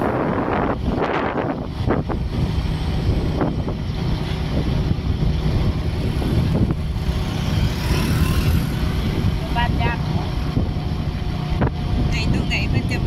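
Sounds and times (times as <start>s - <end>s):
low road rumble: 0.0s - 13.0s
wind buffeting microphone: 0.0s - 13.0s.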